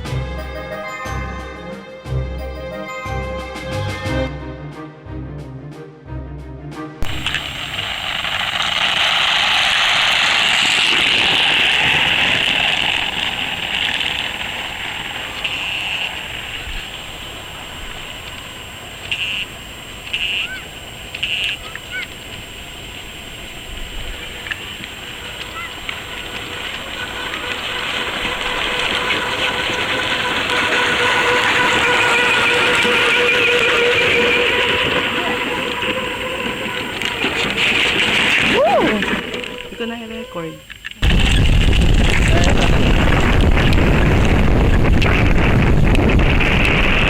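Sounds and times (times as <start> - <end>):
road rumble: 6.3 - 47.0
plastic wheels scraping on asphalt: 7.0 - 20.6, 21.2 - 47.0.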